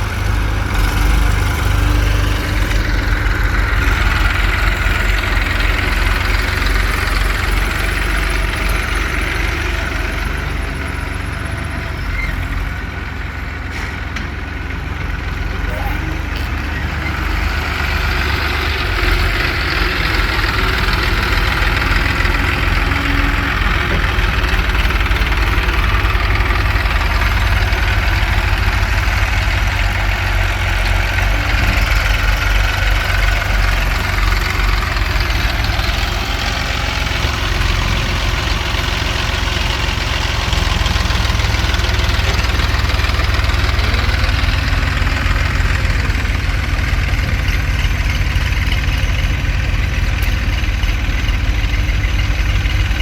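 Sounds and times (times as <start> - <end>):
diesel engines idling: 0.0 - 53.0.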